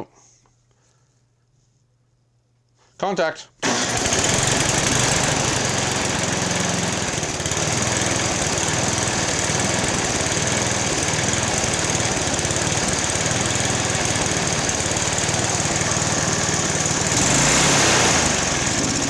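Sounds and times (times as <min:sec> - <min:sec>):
small engine racing: 0:03.6 - 0:19.0.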